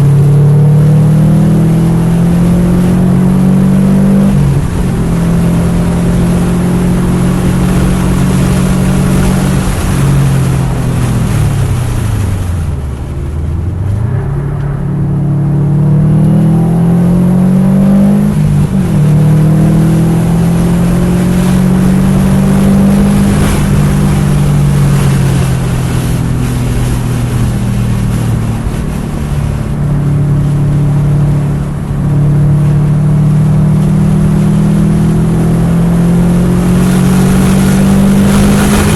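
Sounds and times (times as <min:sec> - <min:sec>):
turbocharged car engine revving: 0:00.0 - 0:38.9.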